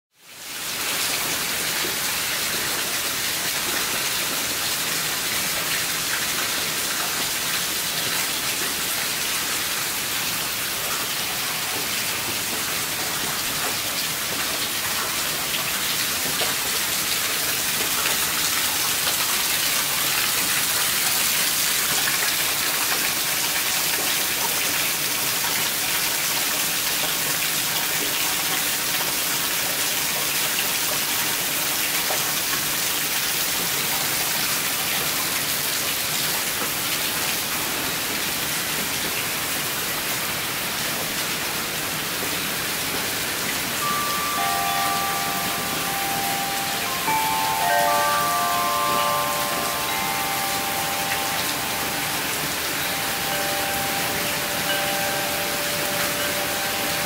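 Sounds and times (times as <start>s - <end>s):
heavy rain falling: 0.2s - 57.0s.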